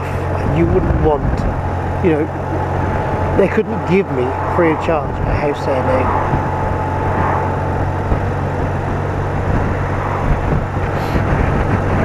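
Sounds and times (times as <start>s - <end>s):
wind noise: 0.0s - 12.0s.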